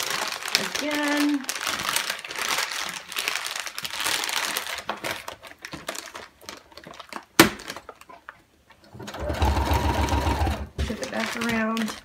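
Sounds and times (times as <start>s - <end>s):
foil drink pouches crinkling: 0.0s - 8.5s, 10.8s - 12.0s.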